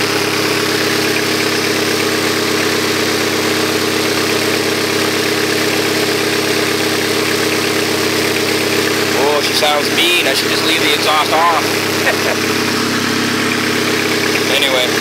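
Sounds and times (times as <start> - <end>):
car engine idling loudly: 0.0 - 15.0.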